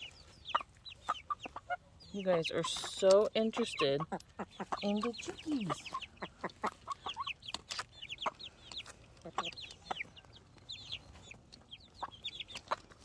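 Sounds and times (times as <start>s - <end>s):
baby chicks peeping: 0.0s - 13.0s
hens clucking: 0.0s - 13.0s.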